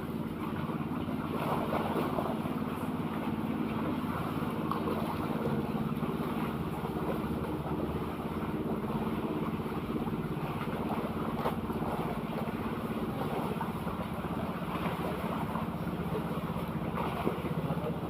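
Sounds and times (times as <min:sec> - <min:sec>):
boat engine running: 0:00.0 - 0:18.0
water noise: 0:00.0 - 0:18.0
wind: 0:00.0 - 0:18.0.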